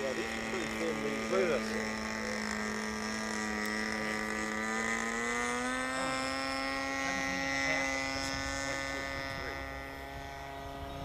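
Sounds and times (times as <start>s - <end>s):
model airplane motor droning: 0.0s - 11.0s.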